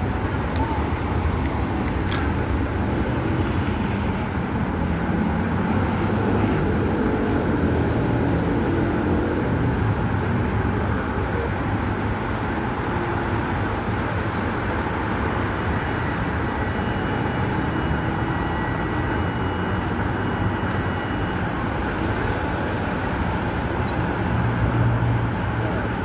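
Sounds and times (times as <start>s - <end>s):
vehicle rumble in motion: 0.0s - 26.0s.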